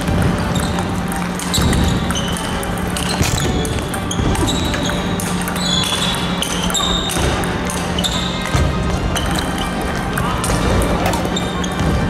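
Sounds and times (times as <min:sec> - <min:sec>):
table tennis ball clicking: 0:00.0 - 0:11.0
shoes squeaking on sports floor: 0:00.3 - 0:09.8, 0:11.0 - 0:12.0.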